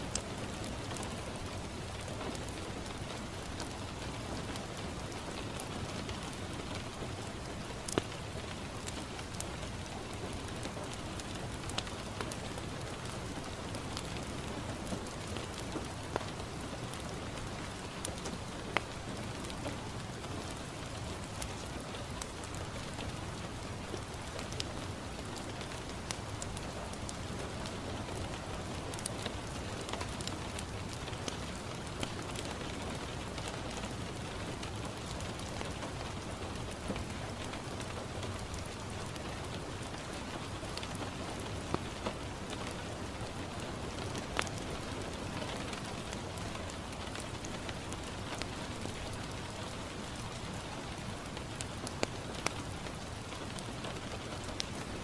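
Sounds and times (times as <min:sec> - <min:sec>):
rain on a window: 0:00.0 - 0:55.0
wood fire crackling and popping: 0:00.0 - 0:55.0.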